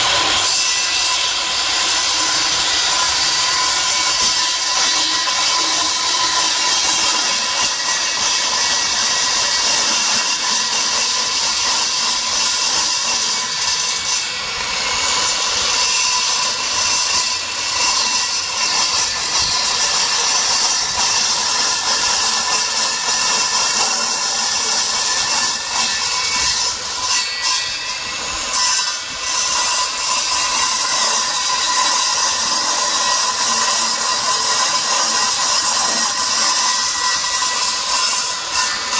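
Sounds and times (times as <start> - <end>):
circular saw cutting metal: 0.0 - 38.9.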